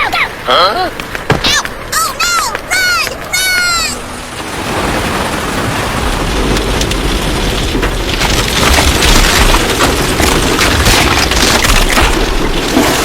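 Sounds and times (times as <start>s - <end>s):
heavy rain: 0.0s - 13.0s
thunder rumbling: 0.2s - 13.0s.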